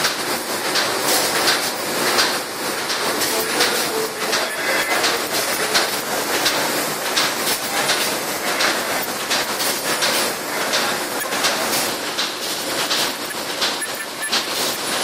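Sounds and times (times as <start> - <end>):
machine knocking clatter: 0.0 - 15.0
machine whir: 0.0 - 15.0.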